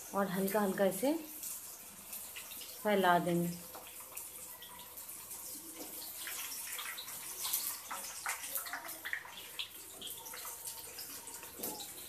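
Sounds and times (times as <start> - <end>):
batter sizzling in hot oil: 0.0 - 12.0.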